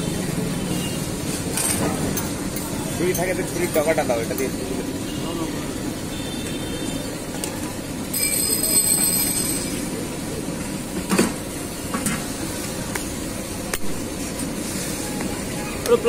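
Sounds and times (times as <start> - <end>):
street background noise: 0.0 - 16.0.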